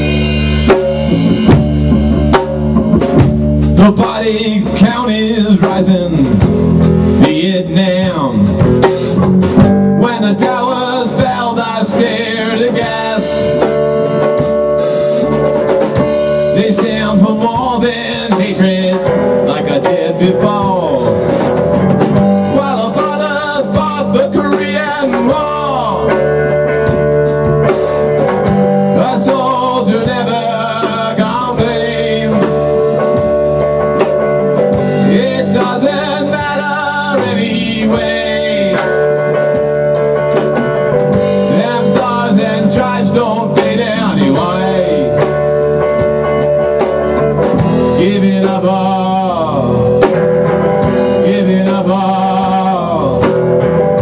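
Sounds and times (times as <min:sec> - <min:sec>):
drum kit beat: 0:00.0 - 0:54.0
electric bass: 0:00.0 - 0:54.0
electric guitar: 0:00.0 - 0:54.0.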